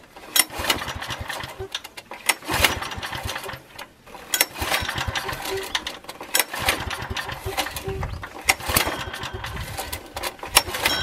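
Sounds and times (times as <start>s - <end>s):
generator engine cranking and firing: 0.0s - 11.0s.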